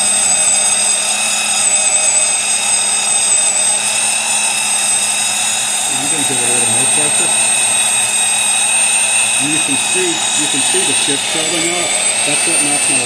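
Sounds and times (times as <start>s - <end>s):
cutter cutting into steel: 0.0s - 13.0s
magnetic drill motor whine: 0.0s - 13.0s.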